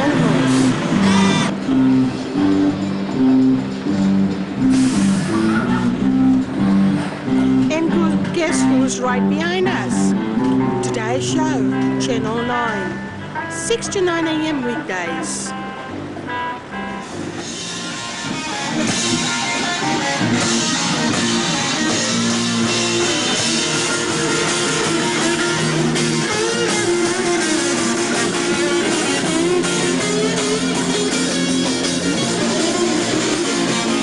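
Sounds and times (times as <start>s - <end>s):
drum kit: 0.0s - 13.0s, 15.7s - 34.0s
strummed electric guitar: 0.0s - 34.0s.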